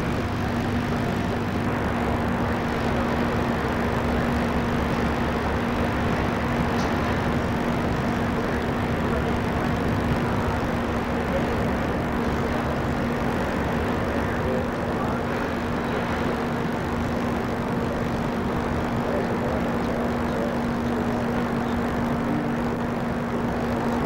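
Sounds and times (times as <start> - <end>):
constant low tone: 0.0 - 24.0
ship machinery humming: 0.0 - 24.0.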